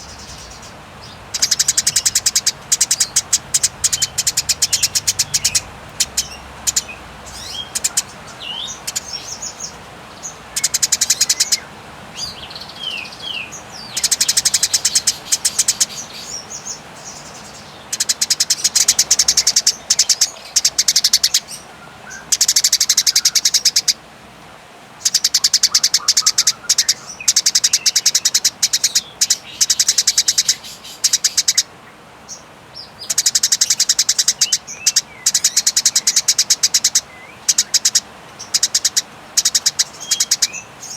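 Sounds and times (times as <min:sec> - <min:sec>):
sparrows chattering: 0:00.0 - 0:24.0, 0:25.0 - 0:40.9.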